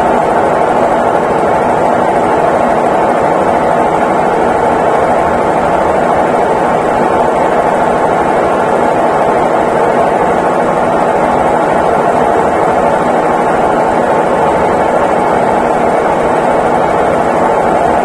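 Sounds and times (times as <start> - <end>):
washing machine whirring: 0.0 - 18.0.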